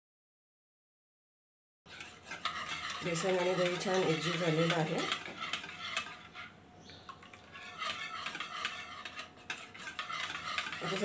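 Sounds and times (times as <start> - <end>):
wire whisk scraping a bowl: 1.9 - 11.0.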